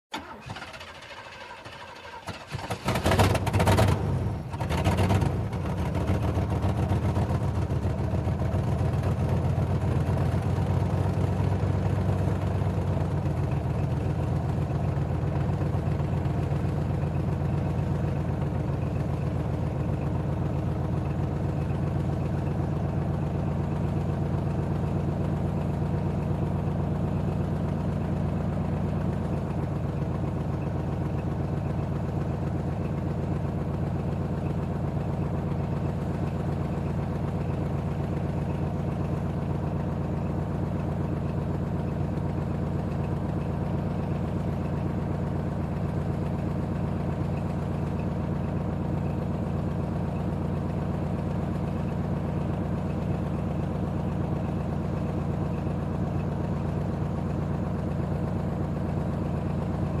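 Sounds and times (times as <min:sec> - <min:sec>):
old car engine starting and idling: 0:00.1 - 1:00.0.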